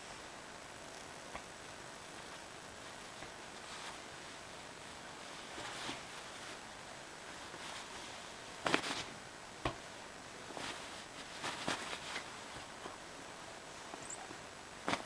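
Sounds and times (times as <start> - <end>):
bedding rustling: 2.0 - 15.0.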